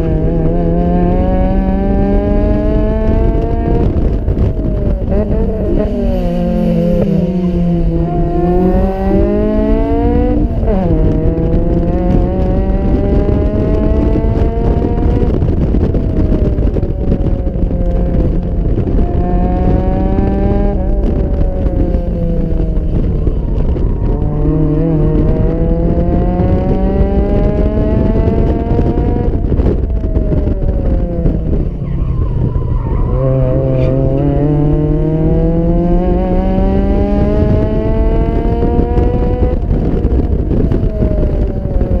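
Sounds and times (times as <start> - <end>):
car engine accelerating and shifting: 0.0 - 42.0.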